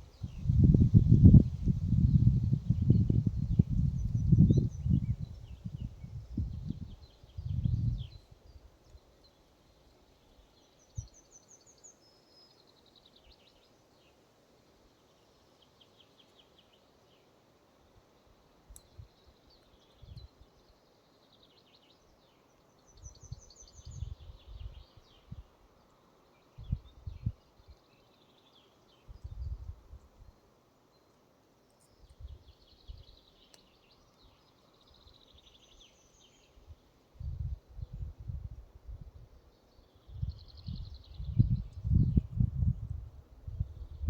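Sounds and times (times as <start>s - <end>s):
songbirds singing: 0.0s - 14.2s, 18.2s - 44.0s.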